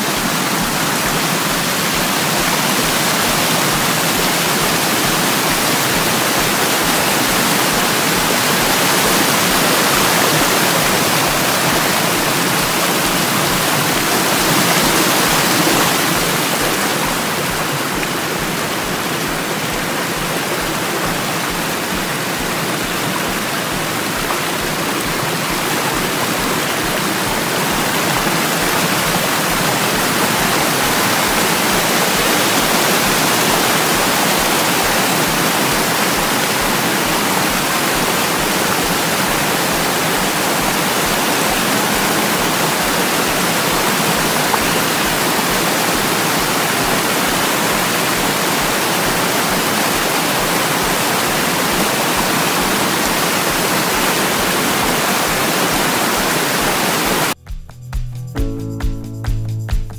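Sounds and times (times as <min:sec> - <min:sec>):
waterfall rushing: 0:00.0 - 0:57.4.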